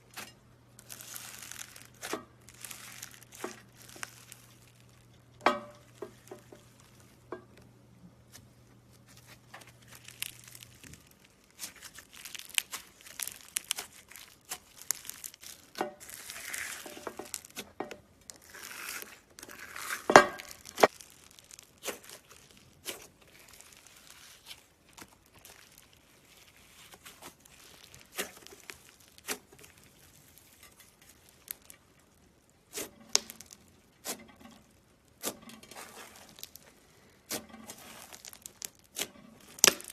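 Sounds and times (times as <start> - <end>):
slime crackling and popping: 0.0 - 7.3, 8.3 - 39.9.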